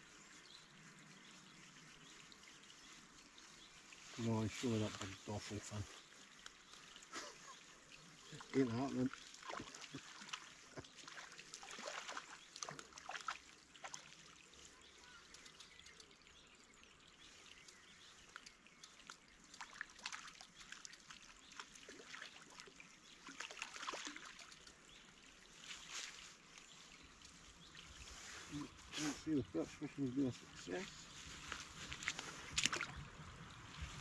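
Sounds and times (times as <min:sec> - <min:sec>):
small ticks and drips: 0:00.0 - 0:34.0
water lapping at shoreline: 0:00.0 - 0:34.0.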